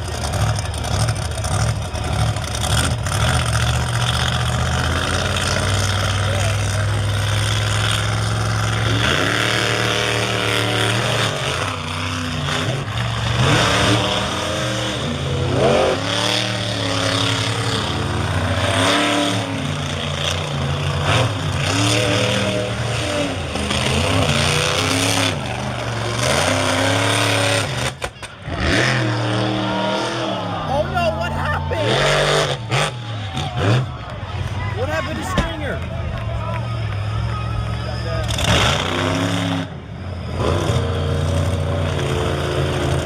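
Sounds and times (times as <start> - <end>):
truck engines revving: 0.0 - 43.0.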